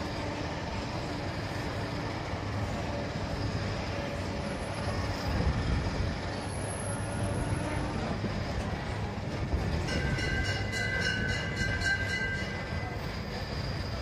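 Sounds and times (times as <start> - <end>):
faint steady tones: 0.0 - 14.0
tram rolling rumble: 0.0 - 14.0.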